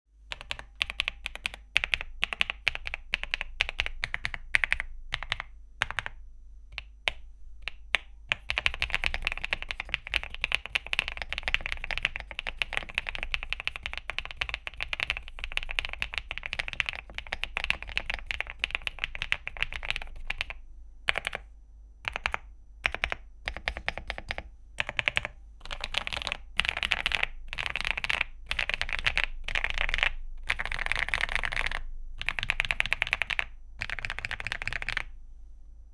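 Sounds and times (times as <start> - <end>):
mechanical keyboard typing: 0.3 - 21.4, 22.1 - 35.2.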